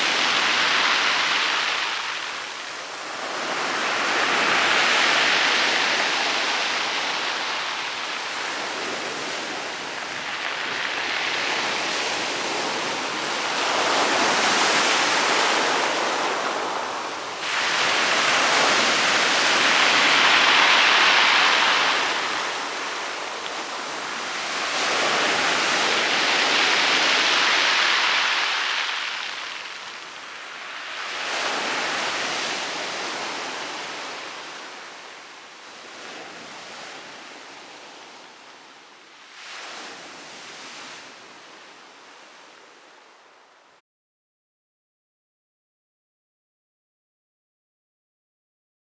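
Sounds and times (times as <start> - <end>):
waves crashing on pebble beach: 0.0 - 38.7, 39.3 - 42.6.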